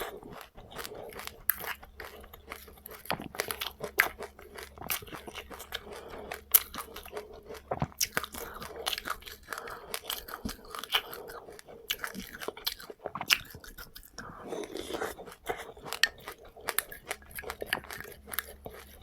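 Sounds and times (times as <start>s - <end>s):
person chewing seeds: 0.0s - 19.0s.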